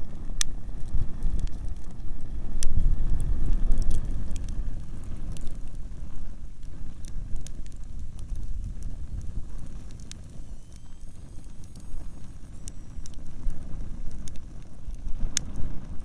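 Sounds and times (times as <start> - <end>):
fire pops and snaps: 0.0 - 16.0
wind rumble on microphone: 0.0 - 16.0
wood fire crackling: 0.0 - 16.0.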